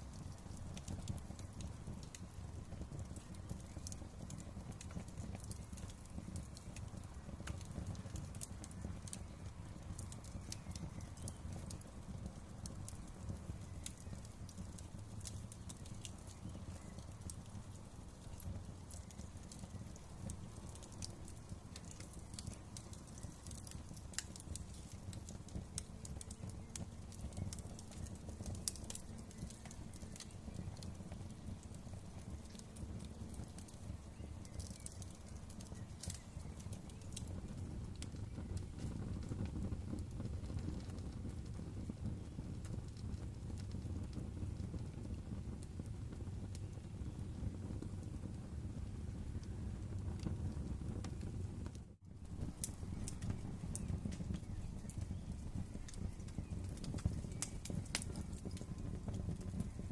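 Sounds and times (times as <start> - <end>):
low rumble of burning: 0.0 - 59.9
wood fire crackling and popping: 0.0 - 59.9.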